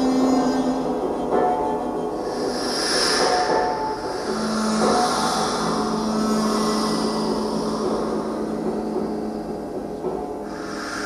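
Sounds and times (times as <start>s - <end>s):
hissing shimmer: 0.0s - 11.0s
large gongs ringing: 0.0s - 11.0s.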